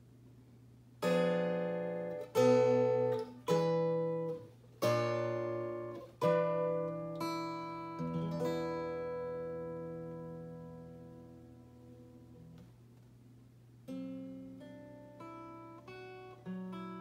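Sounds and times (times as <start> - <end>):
acoustic guitar chords: 1.0 - 12.8, 13.8 - 17.0.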